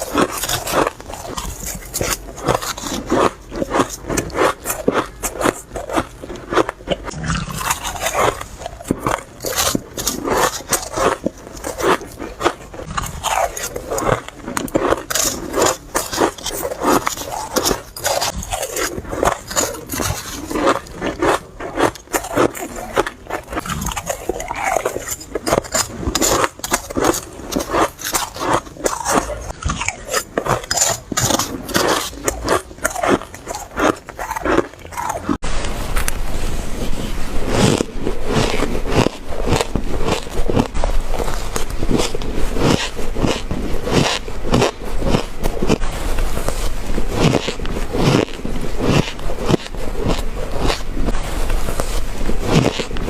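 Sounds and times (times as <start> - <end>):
crunching shaved ice: 0.0 - 35.4, 37.4 - 53.0.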